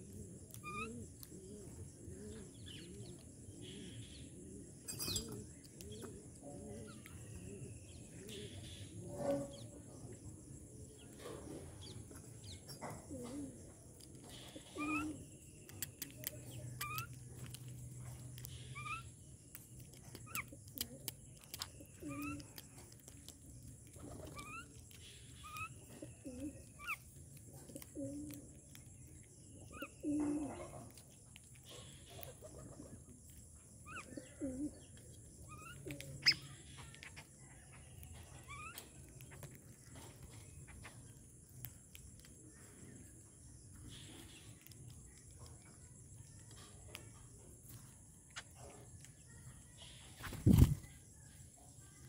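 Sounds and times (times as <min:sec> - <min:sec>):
beaks pecking on hard surface: 0:00.0 - 0:09.6, 0:10.2 - 0:51.4.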